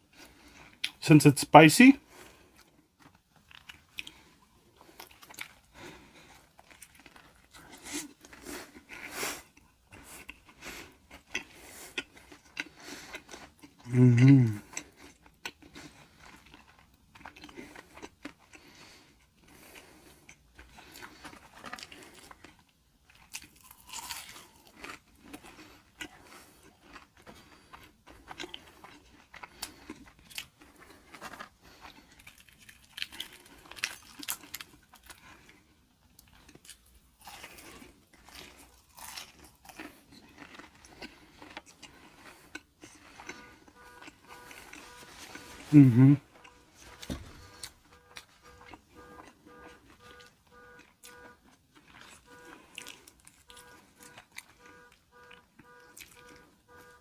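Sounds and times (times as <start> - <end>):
crunchy chewing: 2.1 - 57.0.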